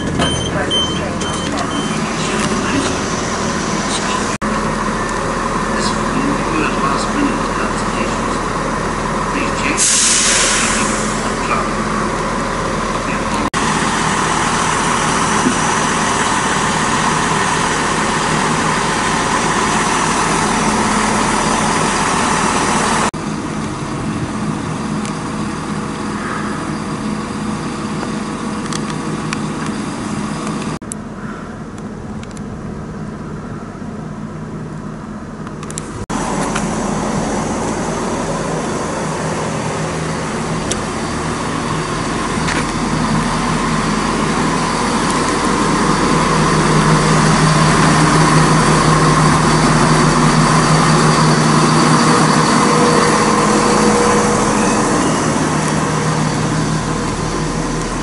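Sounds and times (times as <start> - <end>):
train diesel engines idling: 0.0 - 58.0.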